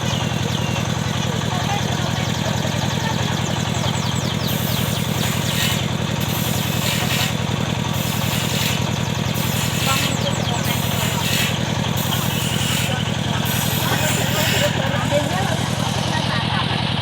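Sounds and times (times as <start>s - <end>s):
wood saw engine running: 0.0s - 17.0s.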